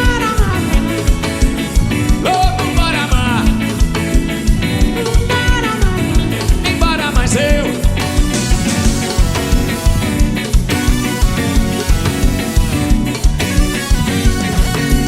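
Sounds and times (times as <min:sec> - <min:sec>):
upbeat music with drum beat: 0:00.0 - 0:15.0.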